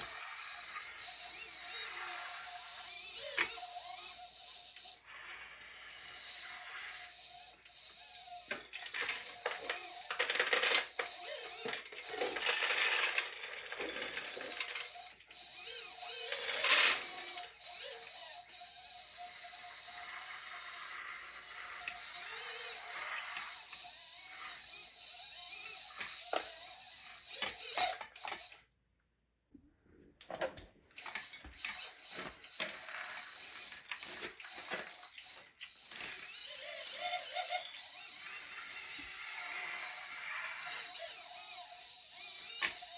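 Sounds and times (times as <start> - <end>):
hydraulic pump whining: 0.0 - 28.6, 31.0 - 42.9.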